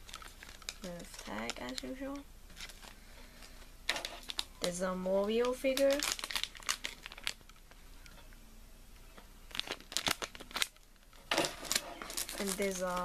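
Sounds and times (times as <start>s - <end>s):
packaging crinkling: 0.0s - 7.8s, 9.5s - 13.0s.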